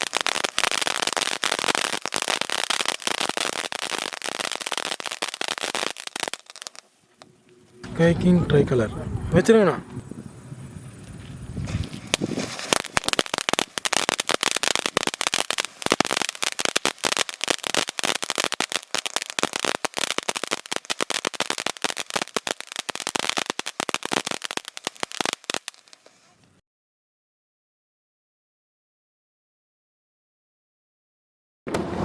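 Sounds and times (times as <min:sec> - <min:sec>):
firework fountain crackling: 0:00.0 - 0:26.5, 0:31.7 - 0:32.0.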